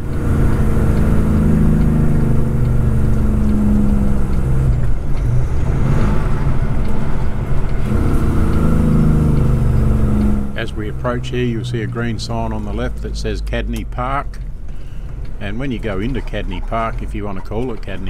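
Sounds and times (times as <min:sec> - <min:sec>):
truck diesel engine droning: 0:00.0 - 0:18.0.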